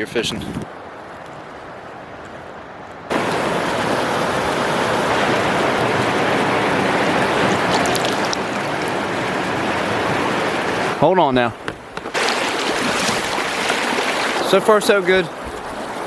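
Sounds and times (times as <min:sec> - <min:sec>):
water rushing: 0:03.1 - 0:16.0.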